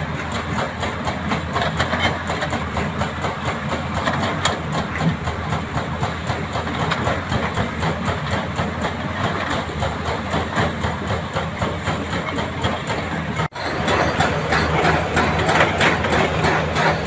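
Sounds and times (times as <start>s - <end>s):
diesel engine running: 0.0s - 17.0s
hydraulic breaker hammering rock: 0.0s - 17.0s.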